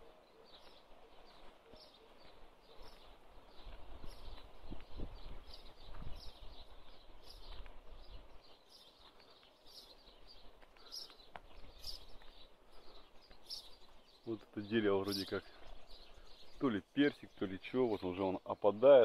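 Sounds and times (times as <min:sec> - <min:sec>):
small bird chirping: 0:00.0 - 0:18.6.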